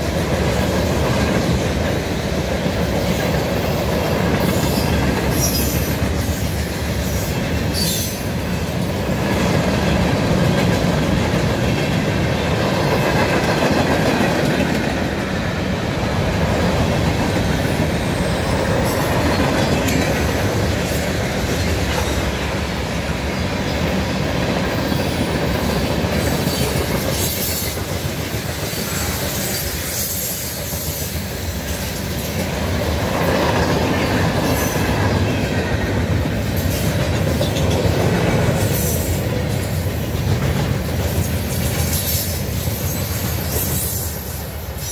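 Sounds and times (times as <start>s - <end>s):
train wheels rumbling on track: 0.0s - 44.9s.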